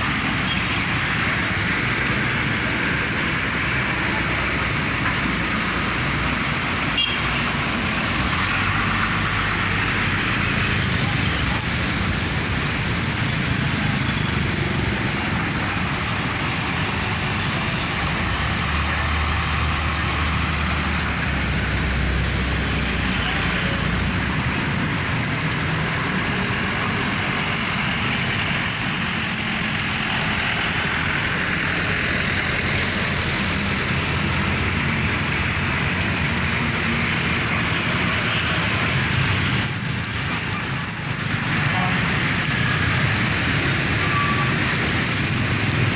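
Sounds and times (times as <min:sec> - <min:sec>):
heavy vehicle engine rumble: 0:00.0 - 0:45.9
road traffic engine and tyre noise: 0:00.0 - 0:45.9.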